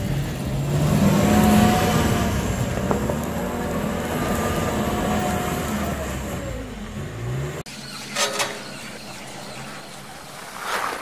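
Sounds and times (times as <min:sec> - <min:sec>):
diesel engine revving: 0:00.0 - 0:10.5.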